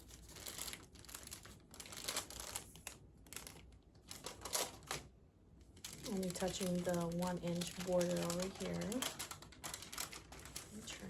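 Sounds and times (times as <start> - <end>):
paper and plastic wrapper crinkling: 0.0 - 11.0.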